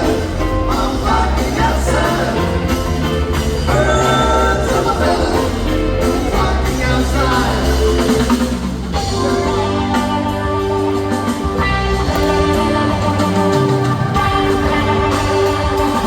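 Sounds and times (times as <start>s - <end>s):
bass guitar: 0.0s - 16.0s
drum kit: 0.0s - 16.0s
electric guitar lines: 0.0s - 16.0s.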